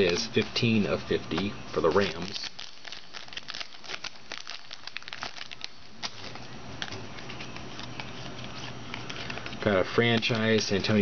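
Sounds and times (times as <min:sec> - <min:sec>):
foil wrapper crinkling: 0:01.3 - 0:11.0.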